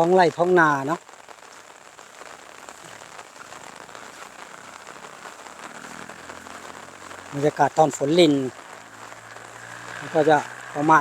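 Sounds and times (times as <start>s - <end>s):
light rain patter: 0.0s - 11.0s.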